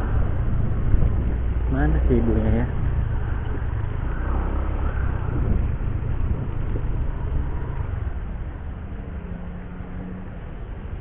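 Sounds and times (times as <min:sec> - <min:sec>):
motorcycle engine low rumble: 0:00.0 - 0:11.0.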